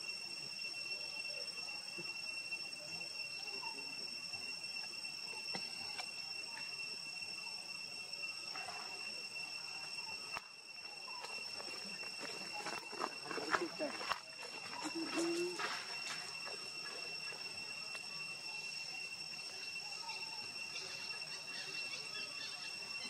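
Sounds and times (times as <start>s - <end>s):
insects shrilling: 0.0s - 23.0s.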